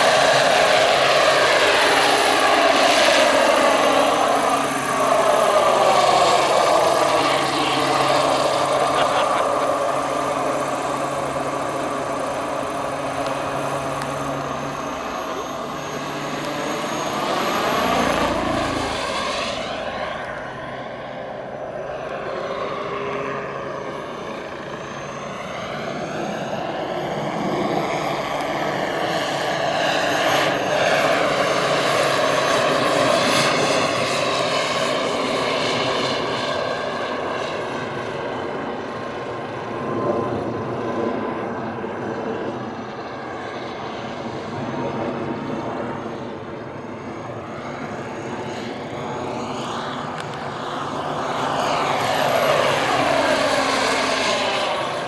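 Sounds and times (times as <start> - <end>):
helicopter rotor noise: 0.0 - 55.0
turbine whine: 0.0 - 55.0.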